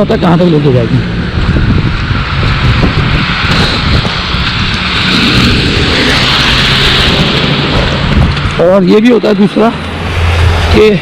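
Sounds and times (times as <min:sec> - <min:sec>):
low traffic rumble: 0:00.0 - 0:11.0
tyres hissing on wet road: 0:00.1 - 0:11.0.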